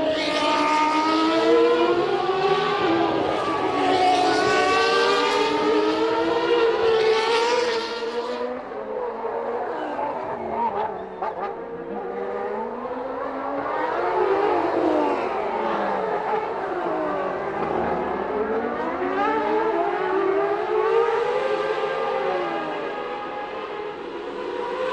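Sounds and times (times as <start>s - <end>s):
racing car engines at high revs: 0.0s - 24.9s.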